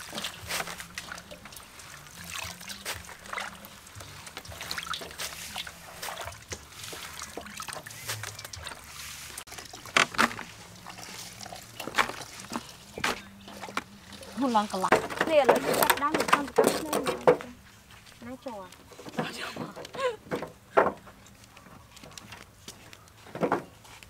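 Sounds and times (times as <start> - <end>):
water sloshing in a metal basin: 0.0 - 22.3.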